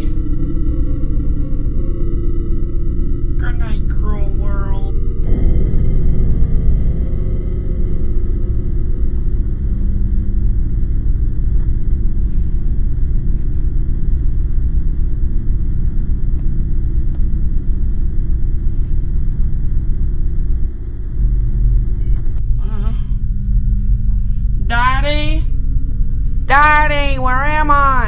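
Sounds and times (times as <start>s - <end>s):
loud low rumble: 0.0s - 28.0s.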